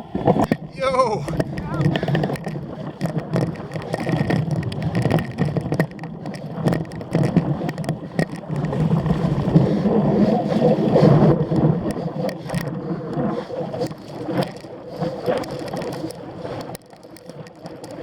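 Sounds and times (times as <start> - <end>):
bike clicking and rattling: 0.2 - 18.0.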